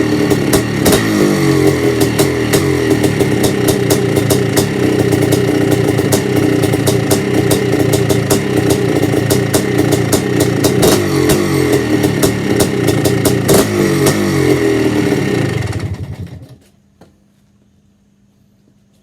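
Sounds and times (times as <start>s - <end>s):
dirt bike engine revving: 0.0s - 16.4s.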